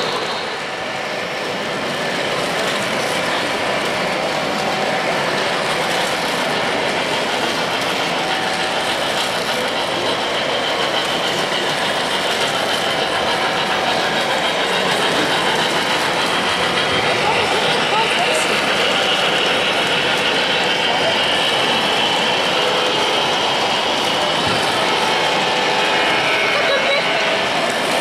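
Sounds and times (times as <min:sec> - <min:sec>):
model train wheels rumbling on track: 0:00.0 - 0:28.0.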